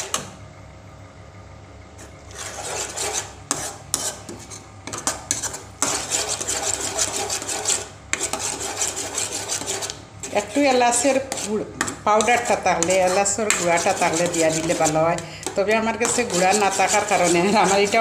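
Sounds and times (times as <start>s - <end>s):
spatula scraping metal pan: 2.3s - 18.0s.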